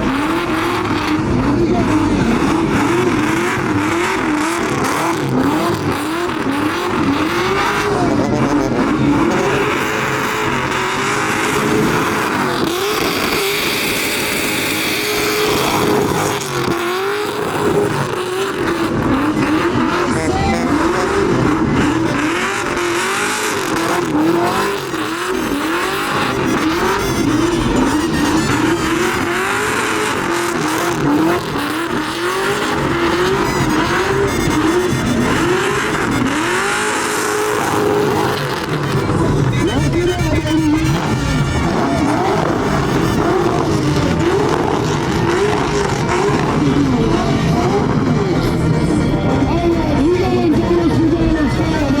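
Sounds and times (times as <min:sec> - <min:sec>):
tires squealing: 0:00.0 - 0:52.0
truck engine revving: 0:00.0 - 0:52.0.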